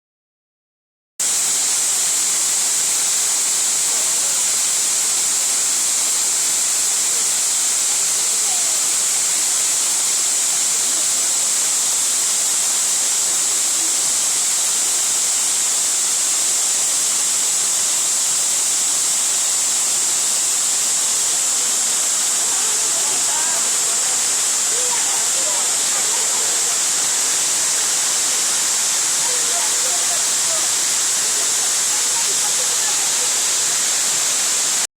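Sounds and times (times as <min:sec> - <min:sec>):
mountain stream rushing: 0:01.2 - 0:34.9.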